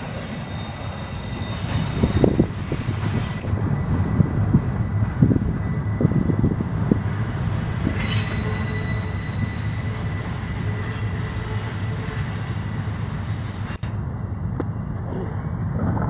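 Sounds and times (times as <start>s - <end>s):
high wheel squeal: 0.0s - 13.8s
train wheels rumbling on rail: 0.0s - 16.0s.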